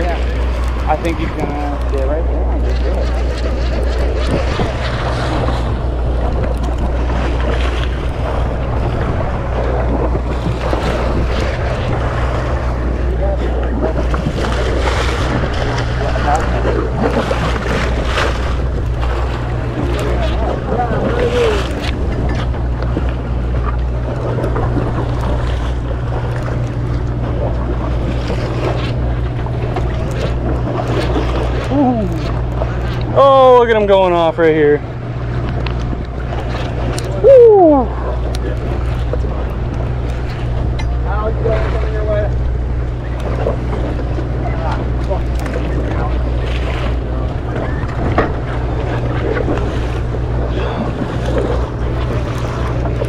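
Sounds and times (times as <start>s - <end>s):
boat engine droning: 0.0s - 53.0s
sea washing against hull: 0.0s - 53.0s
wind buffeting microphone: 0.0s - 53.0s.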